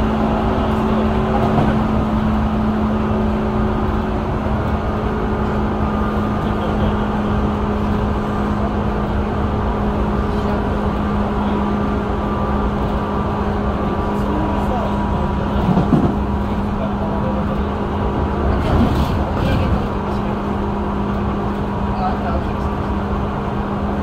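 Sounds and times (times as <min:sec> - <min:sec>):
train motor hum and whine: 0:00.0 - 0:24.0
wheels rumbling on rails: 0:00.0 - 0:24.0.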